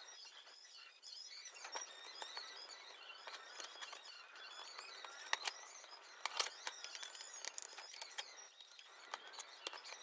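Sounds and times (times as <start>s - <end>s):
faint high chirping: 0.0s - 10.0s.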